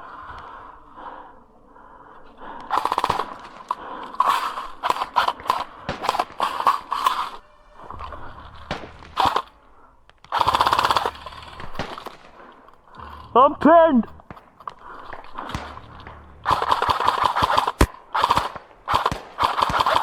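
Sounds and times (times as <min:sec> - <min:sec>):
airsoft guns firing bursts: 0:02.7 - 0:09.6, 0:10.2 - 0:20.0.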